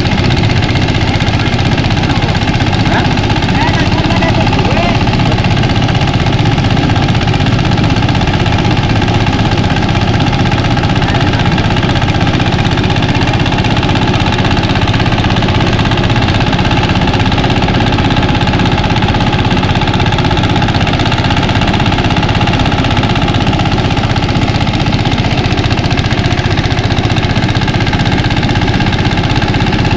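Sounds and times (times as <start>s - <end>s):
thresher engine chugging: 0.0s - 29.9s.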